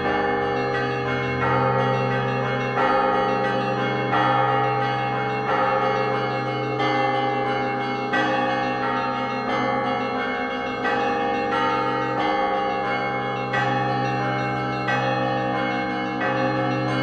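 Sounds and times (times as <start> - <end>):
deep bell ringing: 0.0 - 17.0
small bells ringing rhythmically: 0.0 - 17.0.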